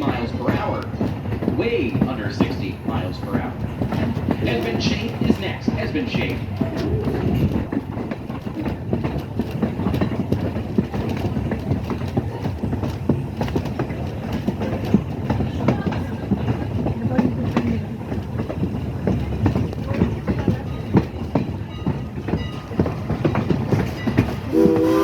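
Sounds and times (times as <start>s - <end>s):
train coach rumbling on track: 0.0s - 25.0s
wheels clicking and knocking: 0.0s - 25.0s.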